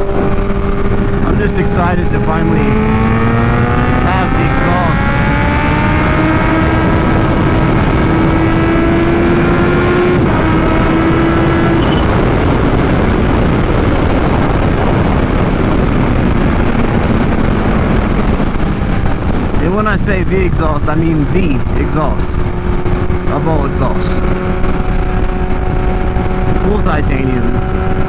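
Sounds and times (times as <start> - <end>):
motorcycle engine at speed: 0.0 - 28.0
wind and road noise: 0.0 - 28.0.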